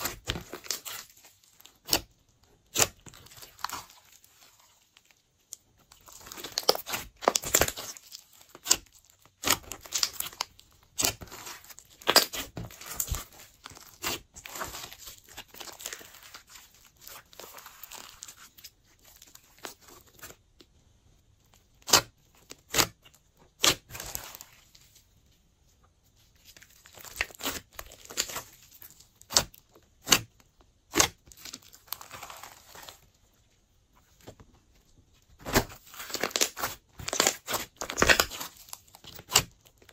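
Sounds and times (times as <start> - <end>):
slime squishing: 0.0 - 20.8, 21.4 - 25.0, 26.1 - 39.9.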